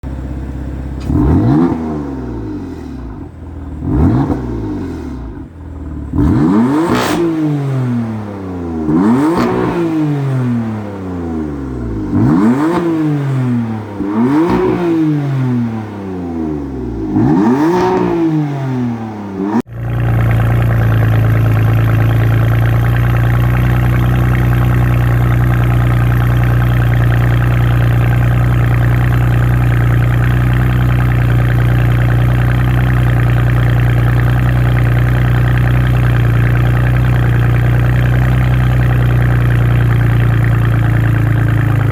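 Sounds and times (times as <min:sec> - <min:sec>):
steady engine drone: 0:00.0 - 0:41.9
car engine revving: 0:00.8 - 0:41.9.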